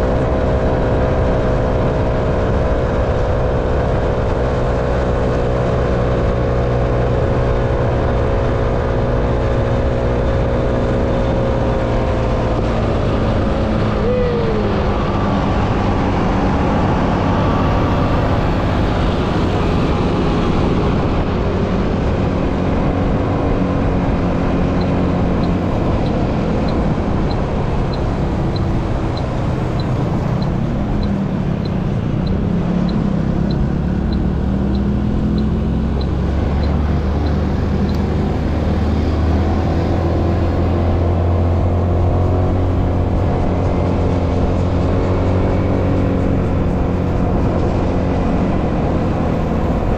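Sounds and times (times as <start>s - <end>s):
vehicle engine and road noise: 0.0s - 49.9s.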